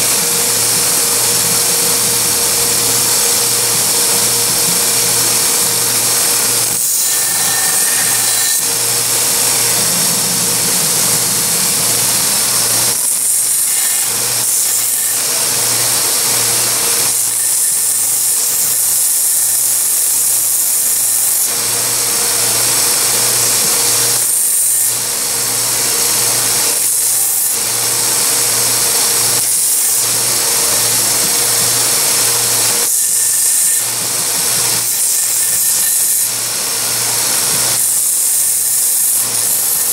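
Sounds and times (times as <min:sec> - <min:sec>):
belt grinder sanding: 0:00.0 - 0:39.9.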